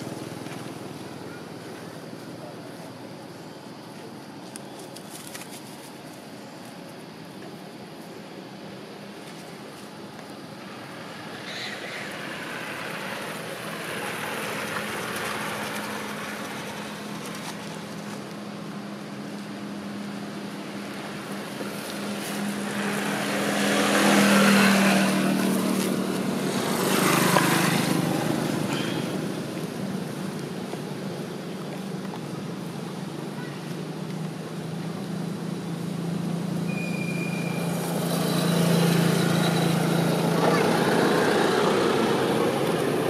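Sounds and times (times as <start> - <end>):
vehicles passing on a road: 0.0 - 43.0.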